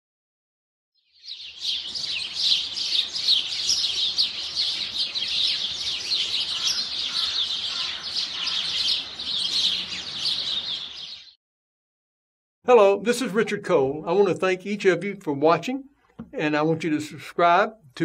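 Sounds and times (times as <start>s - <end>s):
songbirds chirping: 1.0s - 11.4s, 12.7s - 18.0s.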